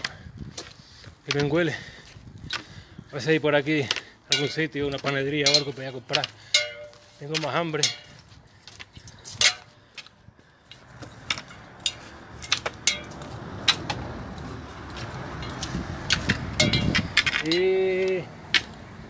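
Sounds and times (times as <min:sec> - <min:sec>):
light clinks and taps of gear: 0:00.0 - 0:01.7, 0:03.7 - 0:18.9.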